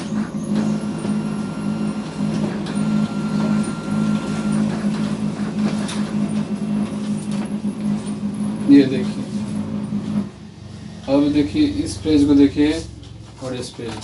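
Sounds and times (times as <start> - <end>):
thin whine: 0.0 - 12.9
photocopier droning: 0.0 - 14.0.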